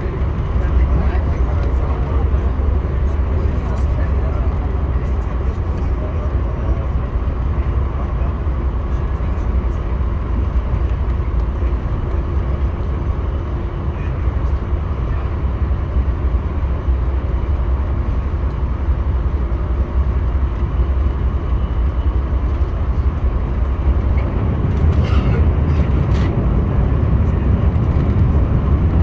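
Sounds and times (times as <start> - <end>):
train rumbling from inside coach: 0.0 - 29.0.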